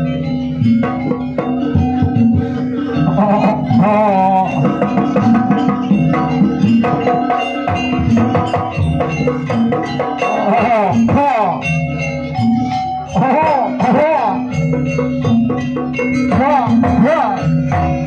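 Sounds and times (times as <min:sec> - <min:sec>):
hand drums: 0:00.0 - 0:18.0
struck metallophones: 0:00.0 - 0:18.0
wavering melodic line: 0:00.0 - 0:18.0.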